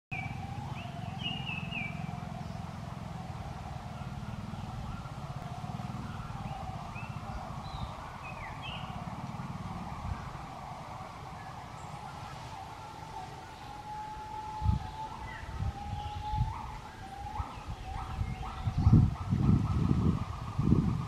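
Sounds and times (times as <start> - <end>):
wavering mid-pitched hum: 0.1 - 21.0.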